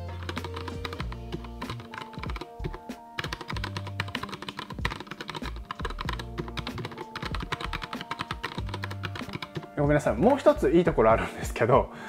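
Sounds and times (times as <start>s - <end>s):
mechanical keyboard typing: 0.0s - 9.8s.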